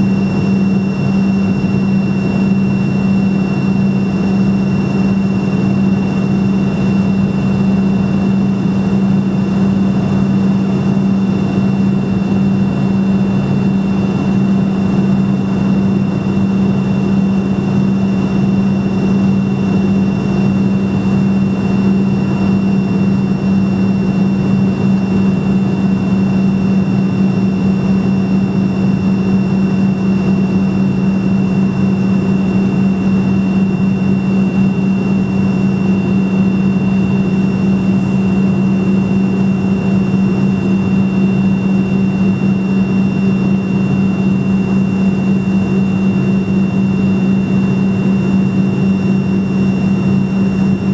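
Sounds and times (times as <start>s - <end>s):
jet engine drone in cabin: 0.0s - 50.9s.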